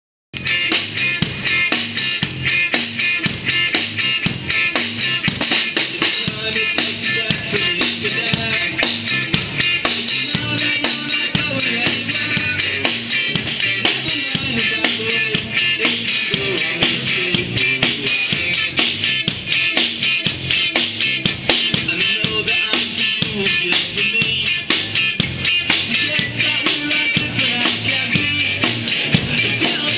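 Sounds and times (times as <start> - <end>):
drum kit rock beat: 0.4 - 29.9
electric guitar: 0.4 - 29.9.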